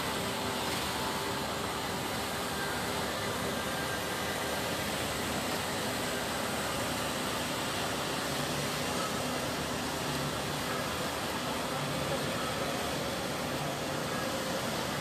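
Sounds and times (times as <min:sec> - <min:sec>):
steady even hiss: 0:00.0 - 0:15.0.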